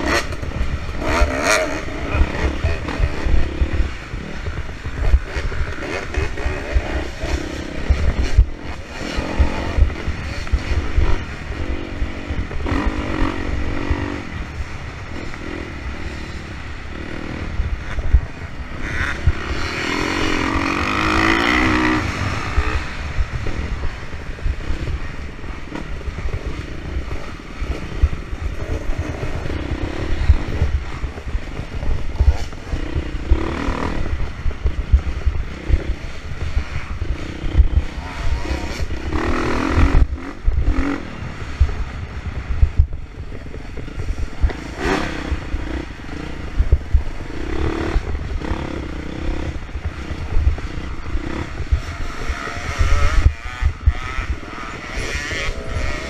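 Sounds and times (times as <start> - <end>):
heavy thumping and buffeting: 0.0 - 15.2, 16.8 - 56.0
dirt bike engine revving: 0.0 - 56.0.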